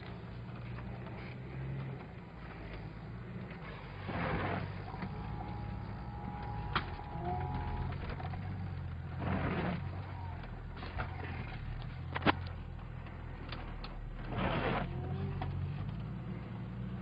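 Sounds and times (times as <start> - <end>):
vehicle engine at low revs: 0.0 - 17.0.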